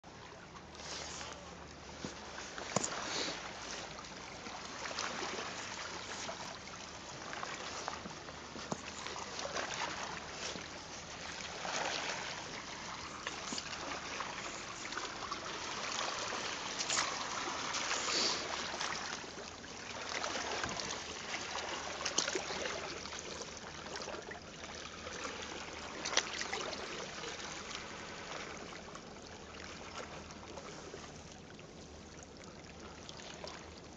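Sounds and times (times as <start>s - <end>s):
water splashes: 0.0s - 33.9s
water trickling among rocks: 0.1s - 33.9s.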